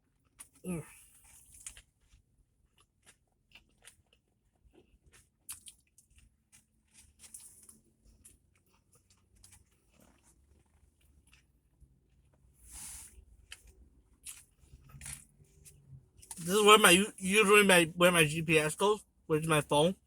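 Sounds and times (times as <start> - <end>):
chewing sandwich: 0.0 - 18.5.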